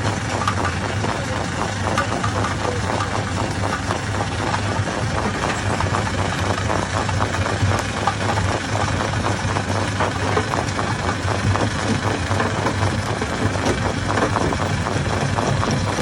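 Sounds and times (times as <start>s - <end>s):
stone crusher hum: 0.0s - 16.0s.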